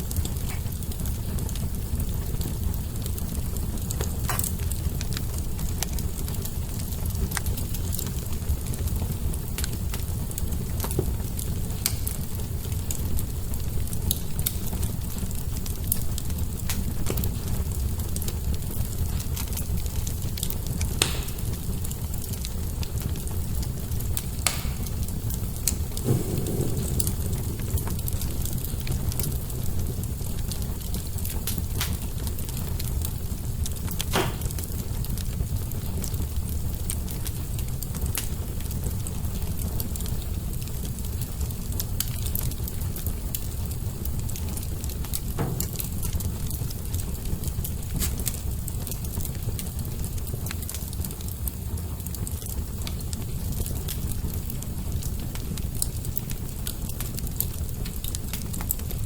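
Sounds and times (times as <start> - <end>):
burning logs popping: 0.0 - 59.0
fire rumbling with crackles: 0.0 - 59.0.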